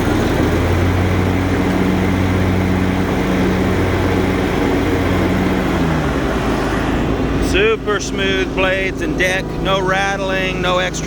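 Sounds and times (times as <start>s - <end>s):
lawn mower engine running: 0.0s - 11.0s.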